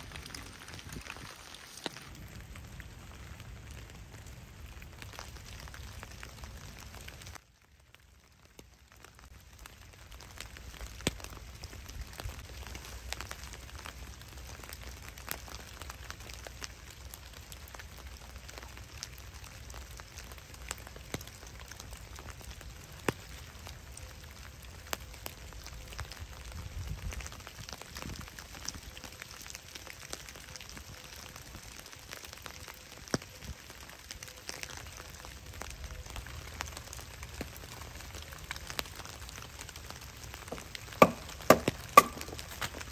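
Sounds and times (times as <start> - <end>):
rain hissing in woodland: 0.0 - 42.9
sharp ticks of raindrops: 0.0 - 42.9.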